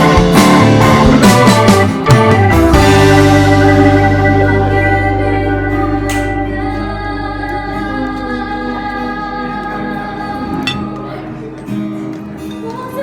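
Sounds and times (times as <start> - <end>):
music held chord: 0.0 - 11.5.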